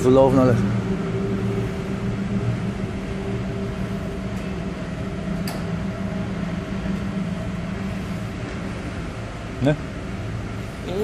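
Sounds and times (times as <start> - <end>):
ship machinery and ventilation hum: 0.0 - 11.0.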